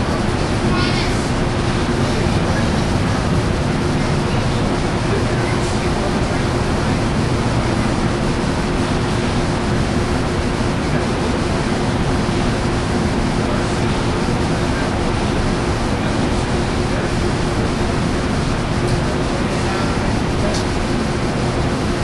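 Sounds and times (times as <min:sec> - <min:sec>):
constant hum: 0:00.0 - 0:22.0
diesel locomotive idling: 0:00.0 - 0:22.0.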